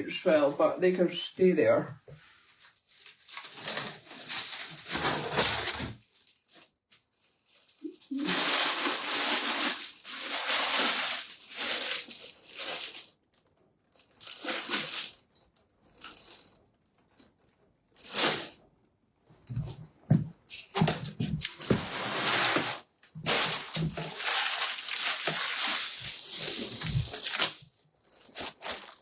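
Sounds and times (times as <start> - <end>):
packaging rustling and crinkling: 2.2 - 18.6, 20.5 - 29.0.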